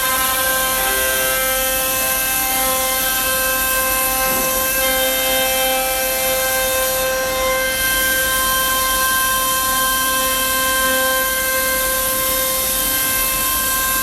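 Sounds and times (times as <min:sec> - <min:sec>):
router spindle cutting plywood: 0:00.0 - 0:14.0.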